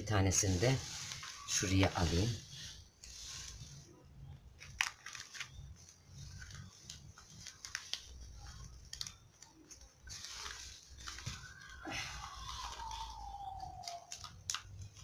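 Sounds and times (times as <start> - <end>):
hands rustling potting soil: 0.0 - 15.0.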